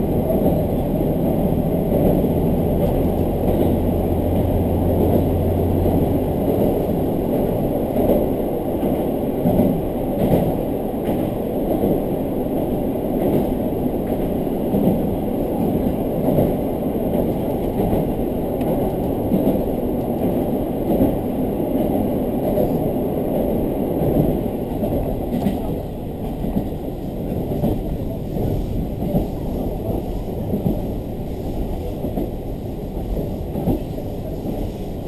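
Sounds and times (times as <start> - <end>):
diesel railcar rumble: 0.0 - 35.0.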